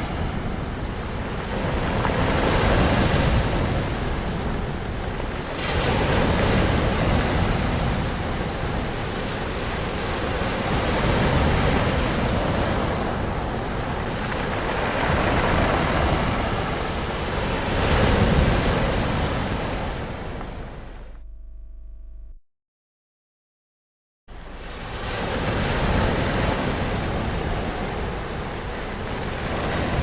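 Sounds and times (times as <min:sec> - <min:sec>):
waves washing onto shore: 0:00.0 - 0:21.0, 0:24.3 - 0:30.0.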